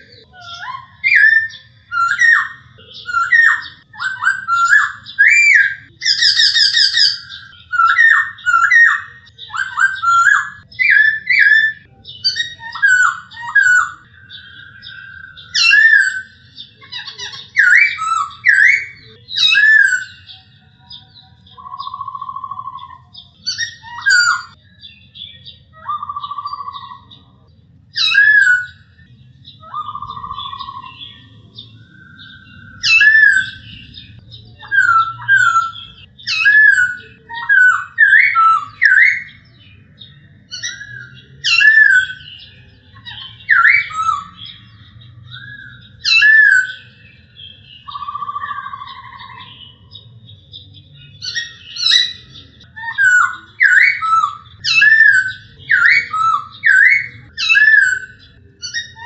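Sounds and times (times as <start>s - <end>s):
bird singing whistled notes: 0.0s - 59.0s.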